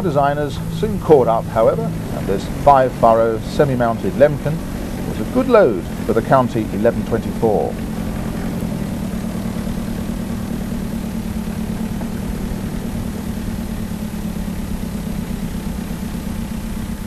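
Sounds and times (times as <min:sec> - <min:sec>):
tractor diesel engine drone: 0:00.0 - 0:17.0.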